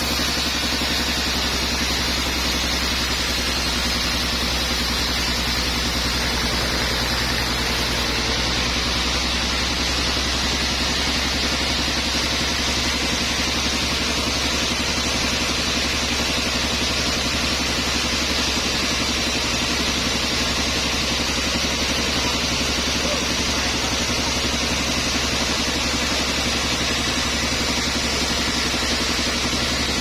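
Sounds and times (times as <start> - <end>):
sawmill machinery droning: 0.0 - 30.0.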